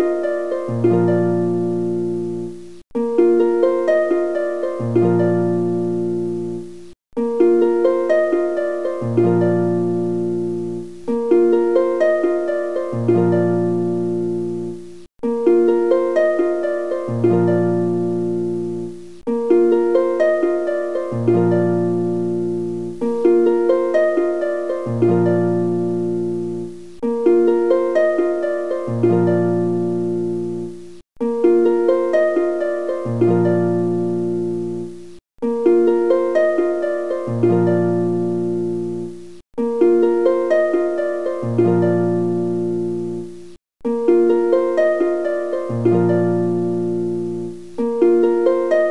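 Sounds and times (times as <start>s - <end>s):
plucked harp-like tune: 0.0s - 48.9s.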